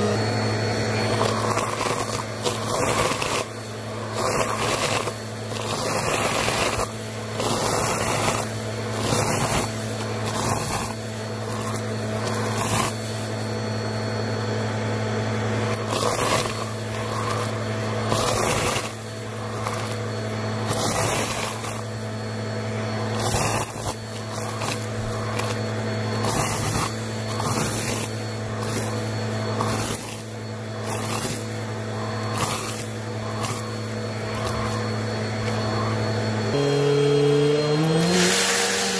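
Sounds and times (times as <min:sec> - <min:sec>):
vacuum cleaner motor hum: 0:00.0 - 0:38.9.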